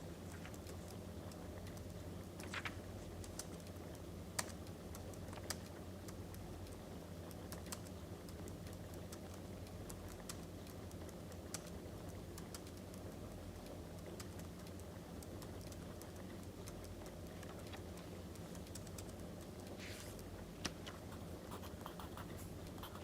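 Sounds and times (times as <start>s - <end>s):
steady low hum: 0.0s - 23.0s
wood fire crackling: 0.1s - 21.0s.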